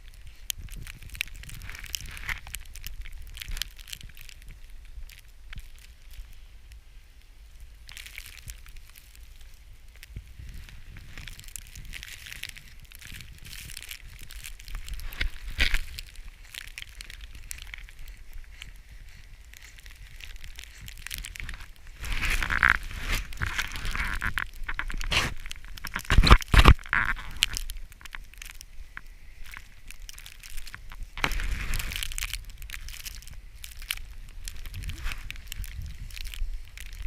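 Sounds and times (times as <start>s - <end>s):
footsteps crunching through snow: 0.0s - 6.4s, 7.4s - 37.0s.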